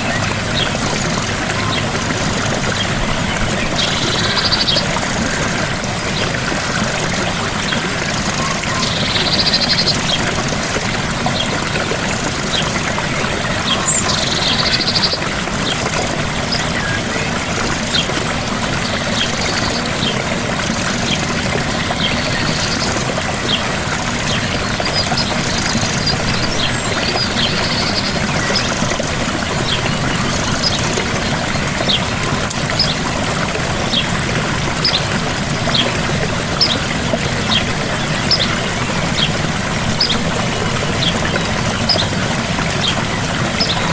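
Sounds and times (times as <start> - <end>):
waterfall splashing: 0.0 - 43.9.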